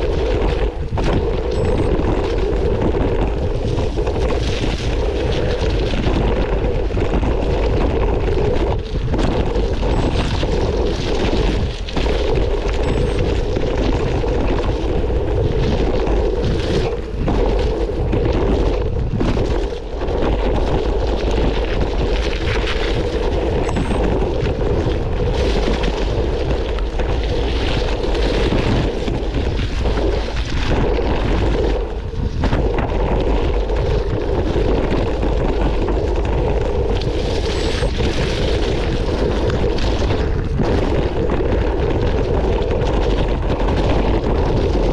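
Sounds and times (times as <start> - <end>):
bike tyres rolling over stones: 0.0 - 44.9
wind rush on microphone: 0.0 - 44.9.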